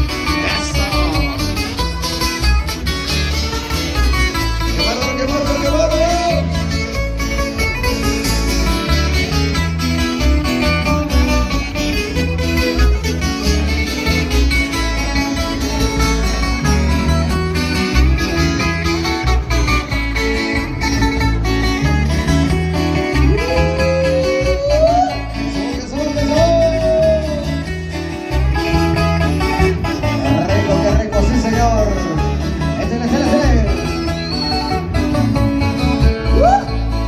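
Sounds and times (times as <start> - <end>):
live band guitars: 0.0 - 37.0
pulsing bass line: 0.0 - 37.0
sliding lead melody: 0.0 - 37.0.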